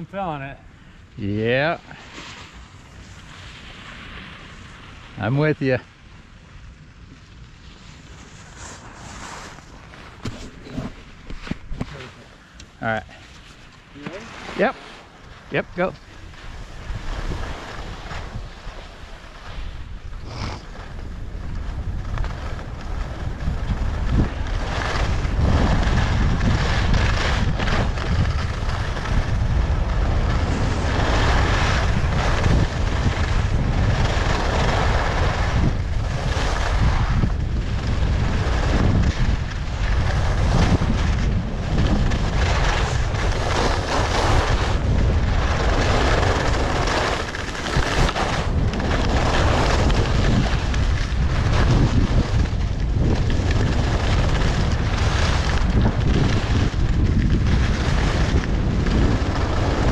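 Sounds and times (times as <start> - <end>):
skis scraping across snow: 1.2 - 5.8, 6.6 - 59.9
wind buffeting microphone: 8.0 - 59.9.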